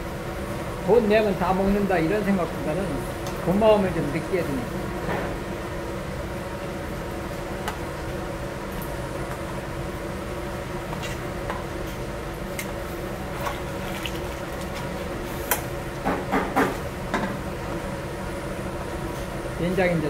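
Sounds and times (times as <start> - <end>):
gas burner roaring: 0.0 - 20.0
kitchen ventilation: 0.0 - 20.0.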